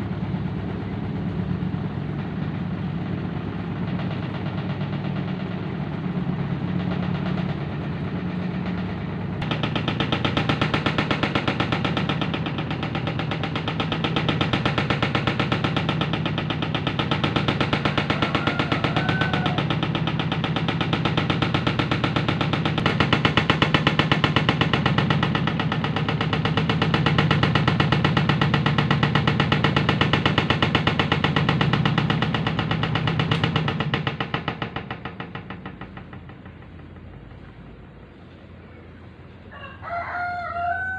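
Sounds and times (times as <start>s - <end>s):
washing machine spinning: 0.0s - 39.3s
rhythmic knocking and rattling: 0.0s - 39.5s.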